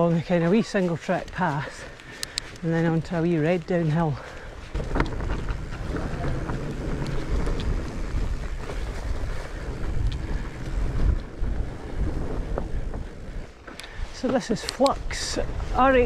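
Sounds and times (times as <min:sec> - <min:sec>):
bike clicks and rattles: 0:00.0 - 0:16.0
bike tyres rolling on rough ground: 0:00.0 - 0:16.0
wind buffeting microphone: 0:00.0 - 0:16.0.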